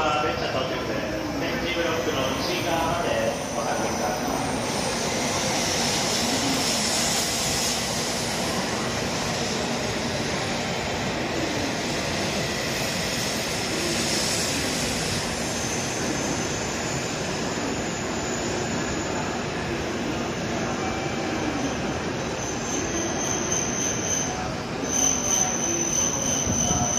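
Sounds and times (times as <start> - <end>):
train rushing past: 0.0 - 26.9.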